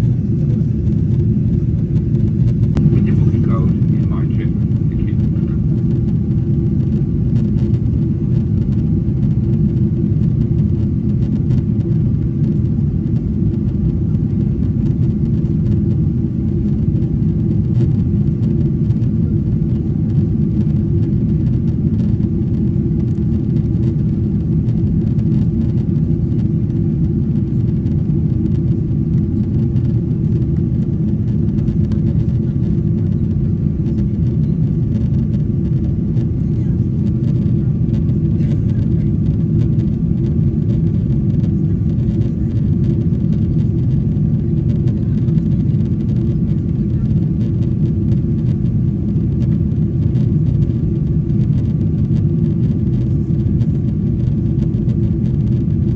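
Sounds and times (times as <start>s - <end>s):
airplane cabin engine drone: 0.0s - 55.9s
faint steady hums: 0.0s - 55.9s.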